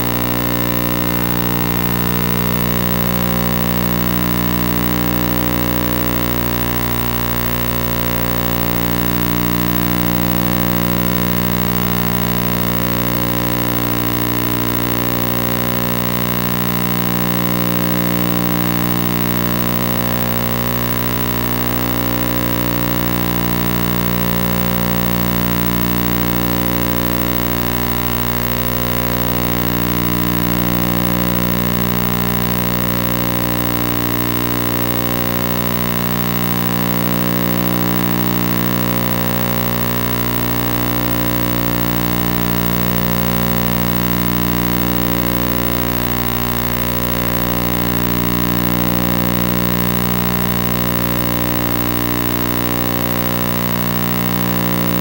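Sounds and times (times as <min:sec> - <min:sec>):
electronic drone: 0:00.0 - 0:55.0.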